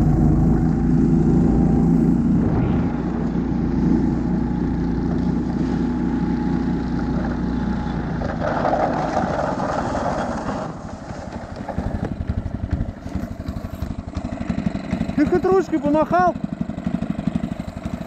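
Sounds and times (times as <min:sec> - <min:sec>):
small engine running under load: 0:00.0 - 0:18.0.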